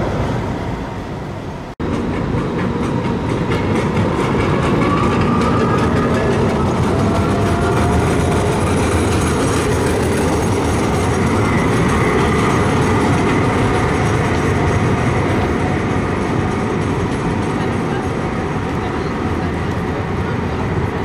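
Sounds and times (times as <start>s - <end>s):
tram wheels rumbling on rail: 0.0s - 21.0s.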